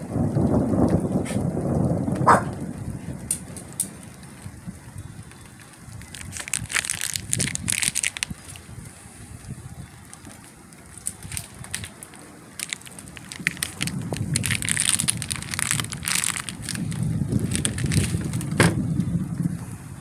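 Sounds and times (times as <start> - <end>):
low rumble: 0.0 - 20.0
microphone crackling and rustling: 0.2 - 19.8.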